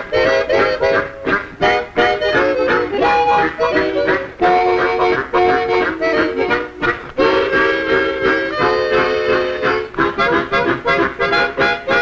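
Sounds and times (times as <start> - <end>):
harmonica ensemble playing swing: 0.0 - 12.0.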